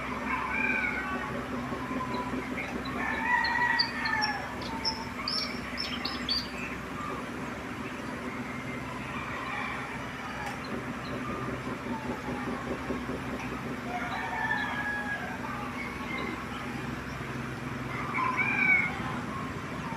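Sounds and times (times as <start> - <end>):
birds chirping: 0.0 - 19.9
gliding bird calls: 0.0 - 19.9
low mechanical hum: 0.0 - 19.9.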